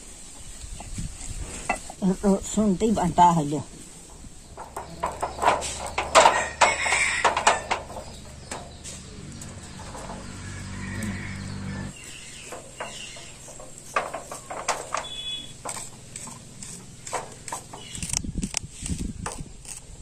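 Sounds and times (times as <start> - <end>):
hand scraping hair on metal sheet: 0.0 - 20.0
low steady hum: 1.2 - 18.4.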